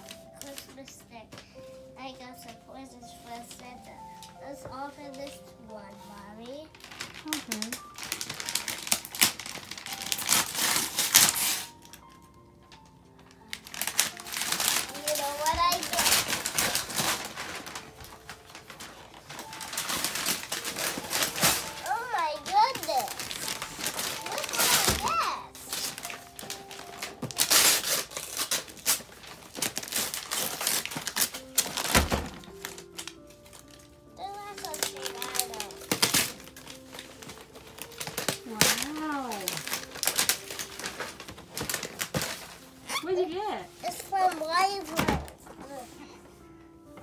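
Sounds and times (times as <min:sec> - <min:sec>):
wrapping paper tearing: 0:00.0 - 0:00.9, 0:02.9 - 0:46.0.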